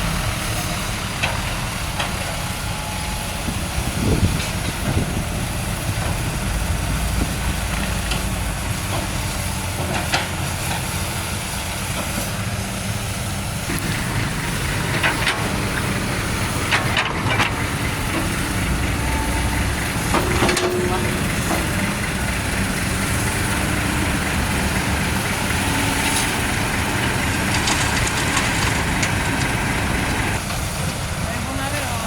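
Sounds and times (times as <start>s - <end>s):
diesel truck engine rumbling: 0.0s - 32.0s.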